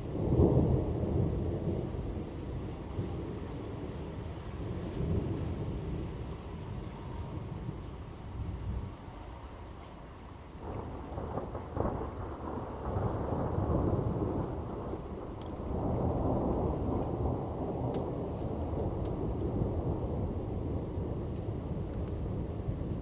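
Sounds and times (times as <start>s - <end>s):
thunder rolling: 0.0s - 8.8s, 10.6s - 23.0s
falling rain: 0.0s - 23.0s.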